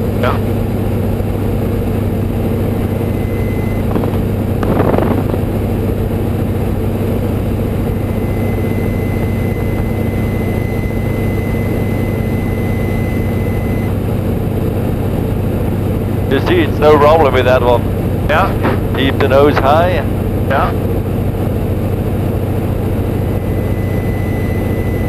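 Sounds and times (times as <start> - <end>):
biplane engine running: 0.0 - 25.0.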